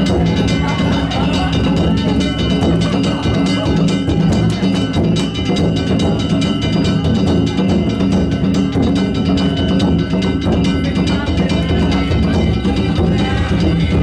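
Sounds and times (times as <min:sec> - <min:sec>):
hand gongs ringing: 0:00.0 - 0:14.0
taiko drum beating: 0:00.0 - 0:14.0.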